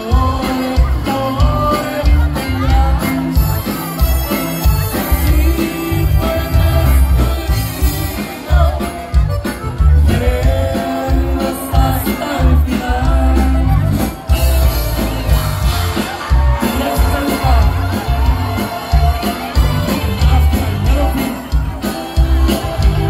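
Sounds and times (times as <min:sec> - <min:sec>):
accordion: 0:00.0 - 0:23.0
drums: 0:00.0 - 0:23.0
guitar: 0:00.0 - 0:23.0
heavy bass: 0:00.0 - 0:23.0
man singing: 0:00.0 - 0:23.0.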